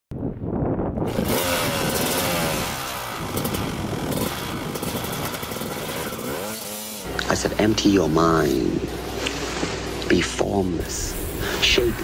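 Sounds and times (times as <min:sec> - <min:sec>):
dirt bike engine revving: 0:01.0 - 0:12.0.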